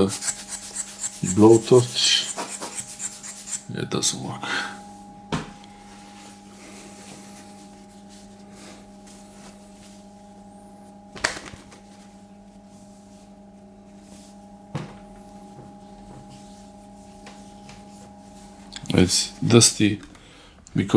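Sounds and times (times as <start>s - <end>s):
steady electrical hum: 0.0s - 20.9s.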